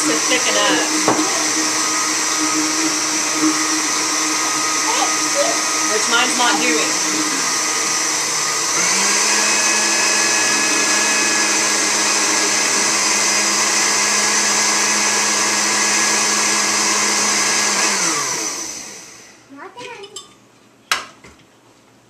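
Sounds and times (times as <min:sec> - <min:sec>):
blender motor running: 0:00.0 - 0:19.5.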